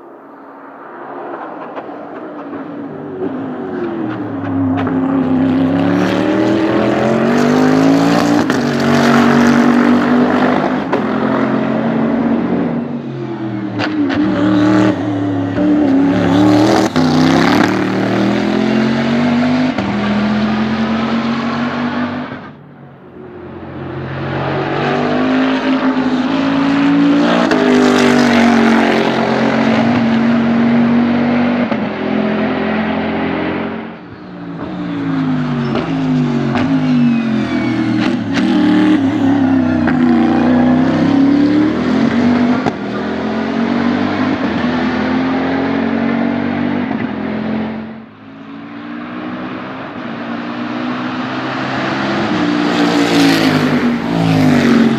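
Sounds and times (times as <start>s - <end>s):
race car engine revving: 2.4s - 22.6s, 23.5s - 54.9s.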